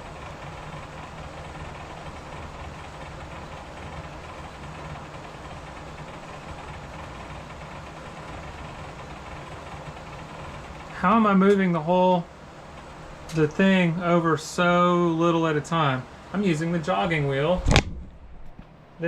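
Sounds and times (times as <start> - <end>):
lathe idle hum: 0.0 - 19.0.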